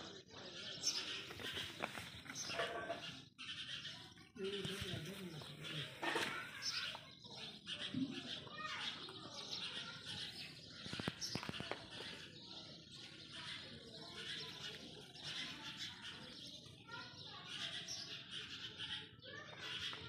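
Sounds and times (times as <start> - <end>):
indistinct voices: 0.0 - 18.0
birds chirping: 0.0 - 20.0.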